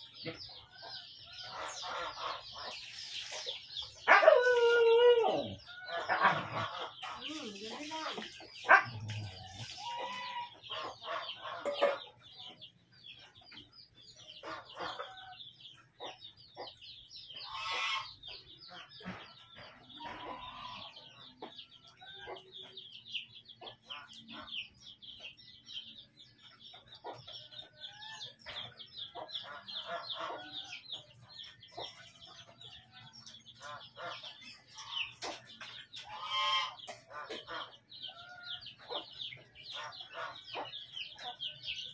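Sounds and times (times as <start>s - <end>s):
hens clucking: 0.0s - 4.2s, 5.0s - 41.9s
chicks peeping: 0.0s - 41.9s.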